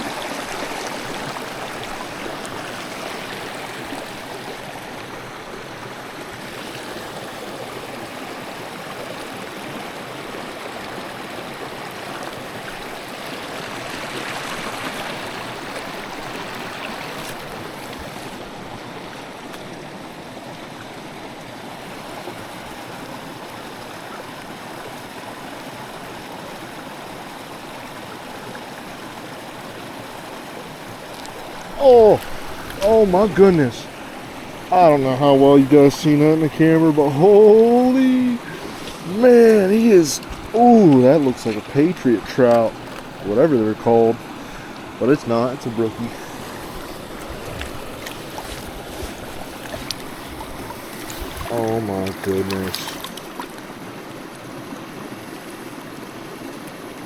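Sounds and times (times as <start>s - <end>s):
stream burbling over rocks: 0.0s - 57.0s.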